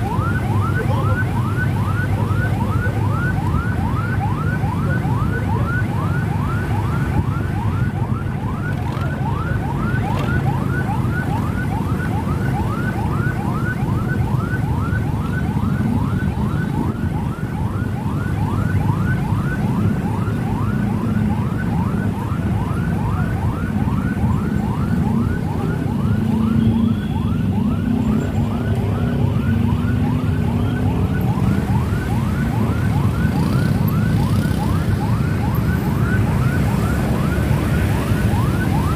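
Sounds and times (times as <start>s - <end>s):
electronic siren yelping: 0.0s - 38.9s
motorbike engines running: 0.0s - 38.9s.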